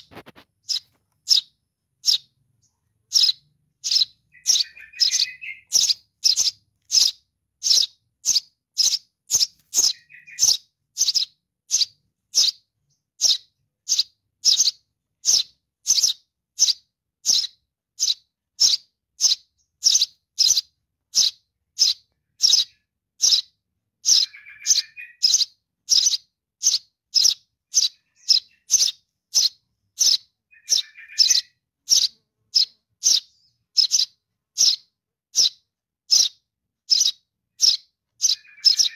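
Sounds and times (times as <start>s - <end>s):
young sparrow high chirps: 0.0s - 38.9s.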